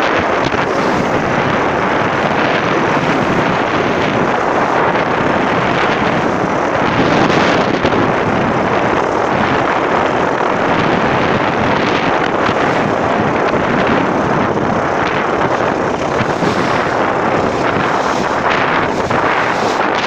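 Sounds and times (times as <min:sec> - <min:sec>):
boat hull water noise: 0:00.0 - 0:20.0
boat motor: 0:00.0 - 0:20.0
wind buffeting microphone: 0:00.0 - 0:20.0.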